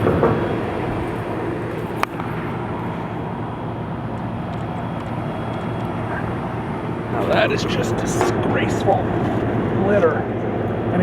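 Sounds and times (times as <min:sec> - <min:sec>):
air conditioner fan rushing: 0:00.0 - 0:11.0
low hum: 0:00.0 - 0:11.0.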